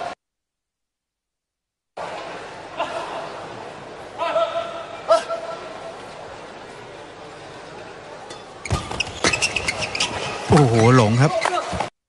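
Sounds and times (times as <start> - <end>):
hall background noise: 2.0 - 11.8.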